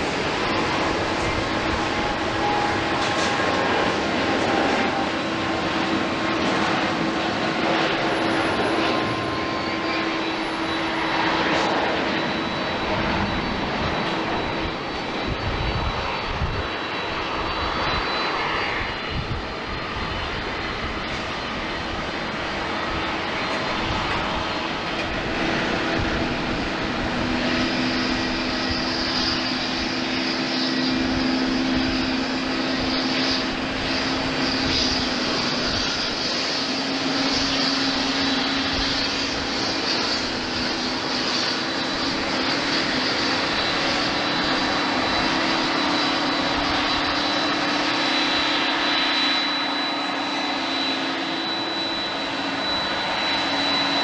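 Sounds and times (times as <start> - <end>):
higher whine: 0.0 - 54.0
jet engines running: 0.0 - 54.0.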